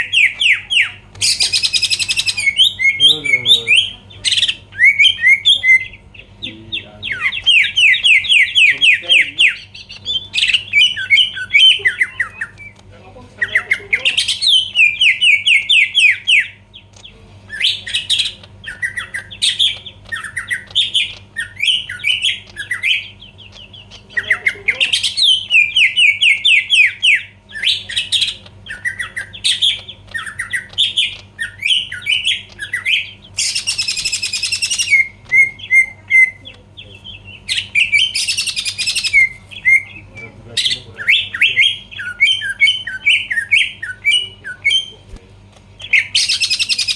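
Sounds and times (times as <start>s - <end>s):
bird singing and chattering: 0.0s - 46.9s
faint low hum: 0.0s - 46.9s.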